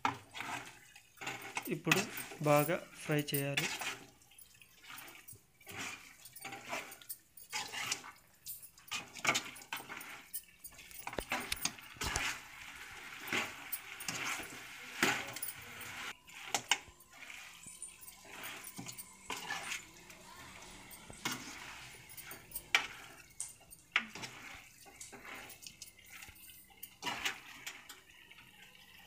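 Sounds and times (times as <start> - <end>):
metal spoon scraping a pan: 0.0 - 28.1.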